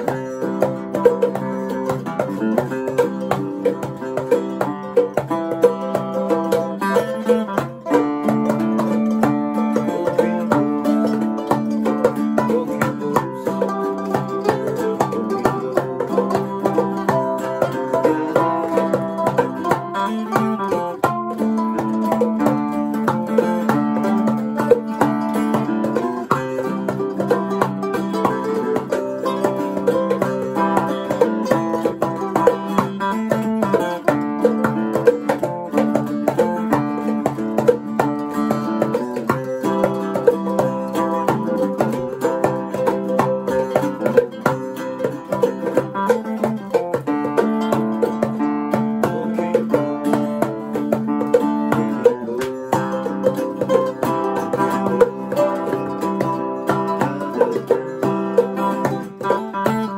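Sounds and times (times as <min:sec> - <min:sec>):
archtop guitar picking: 0:00.0 - 0:59.9
handpan struck by hand: 0:00.0 - 0:59.9
mandolin picking: 0:00.0 - 0:59.9.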